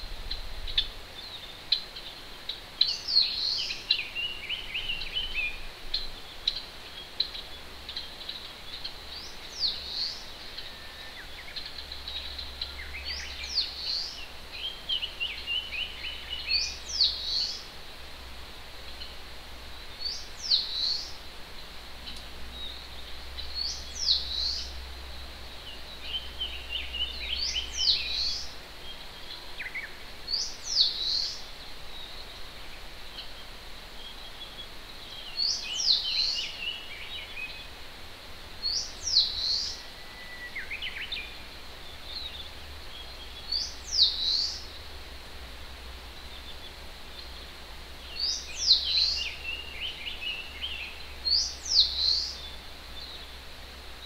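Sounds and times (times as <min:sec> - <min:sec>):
birds twittering: 0:00.0 - 0:17.8, 0:18.4 - 0:45.1, 0:46.0 - 0:54.0
distant mountain stream: 0:00.0 - 0:54.0.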